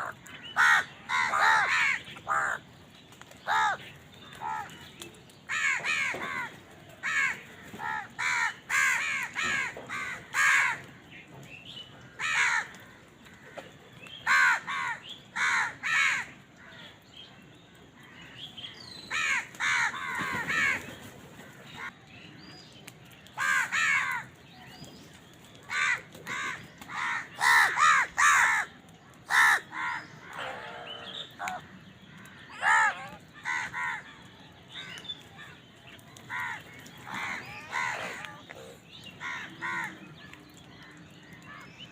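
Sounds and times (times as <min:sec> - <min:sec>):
crows cawing: 0:00.0 - 0:02.7, 0:03.4 - 0:04.8, 0:05.5 - 0:11.1, 0:12.0 - 0:17.0, 0:19.1 - 0:21.9, 0:23.4 - 0:24.4, 0:25.7 - 0:35.6, 0:36.2 - 0:41.7.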